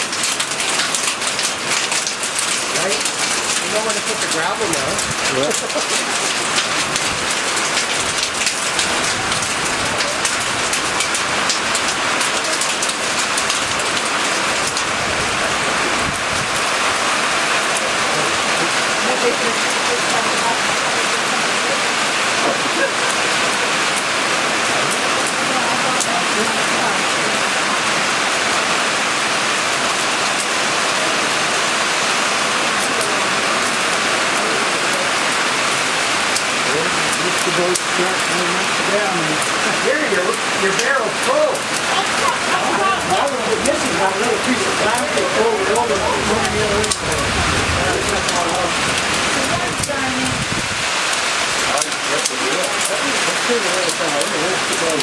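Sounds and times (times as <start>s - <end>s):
hail pelting down: 0.0s - 55.0s
hiss of falling precipitation: 0.0s - 55.0s.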